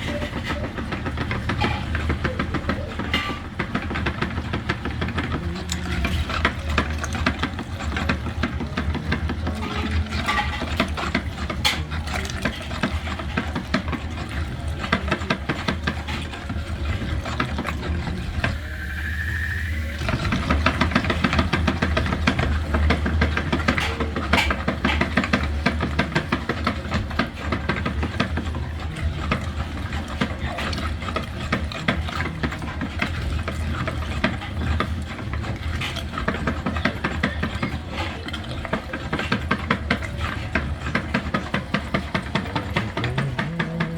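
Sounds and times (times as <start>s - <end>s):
meat grinder running: 0.0s - 43.9s.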